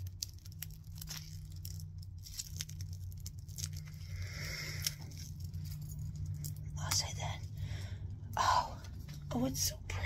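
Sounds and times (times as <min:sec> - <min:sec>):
plastic wrapping crinkling: 0:00.0 - 0:09.4
low steady hum: 0:00.0 - 0:10.0.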